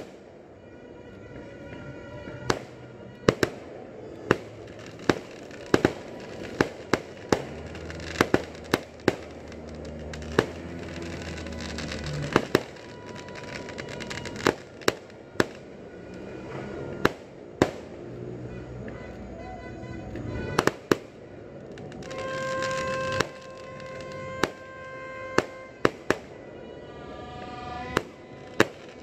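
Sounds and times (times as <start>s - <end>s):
fireworks bangs: 0.0s - 19.2s, 19.9s - 29.0s.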